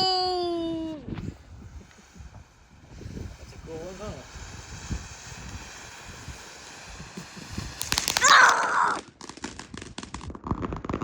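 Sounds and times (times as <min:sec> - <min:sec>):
firework crackling pops: 0:00.0 - 0:11.0
firework hissing: 0:00.0 - 0:11.0.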